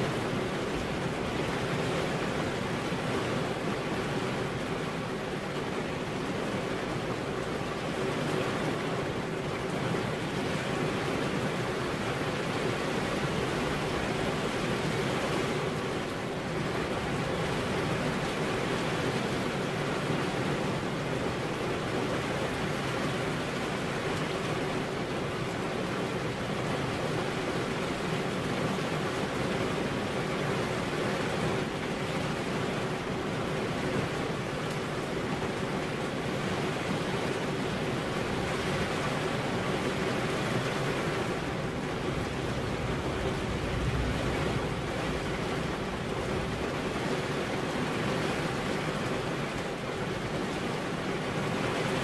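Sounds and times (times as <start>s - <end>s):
rain falling: 0.0s - 52.0s.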